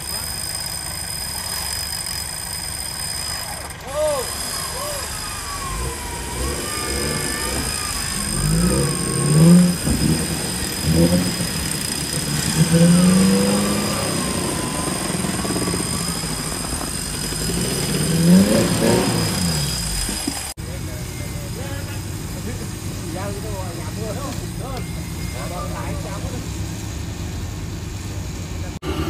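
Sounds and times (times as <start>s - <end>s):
off-road engine revving: 0.0s - 29.0s.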